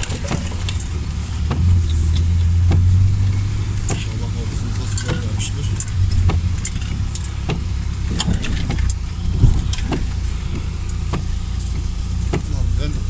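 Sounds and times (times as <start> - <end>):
knocks and rattles: 0.0 - 12.8
car engine droning: 0.0 - 13.0.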